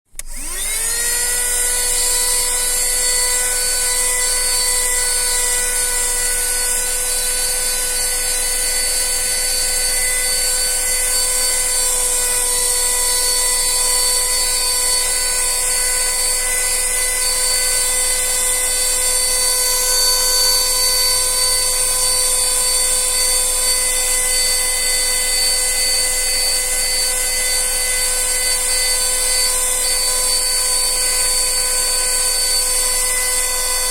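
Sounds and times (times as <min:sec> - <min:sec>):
vacuum cleaner motor whining: 0:00.1 - 0:33.9.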